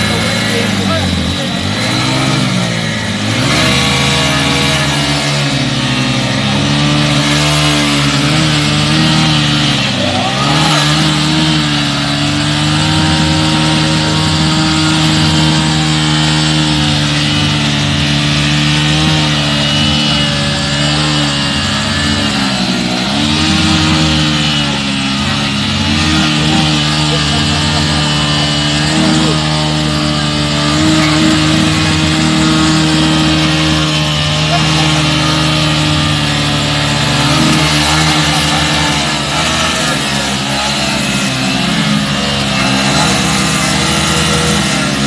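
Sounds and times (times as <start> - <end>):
motorcycle engines running hard: 0.0 - 45.0.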